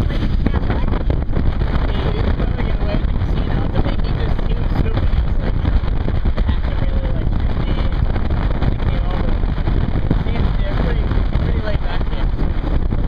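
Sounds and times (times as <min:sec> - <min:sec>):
towed boat rushing: 0:00.0 - 0:13.0
wind buffeting microphone: 0:00.0 - 0:13.0.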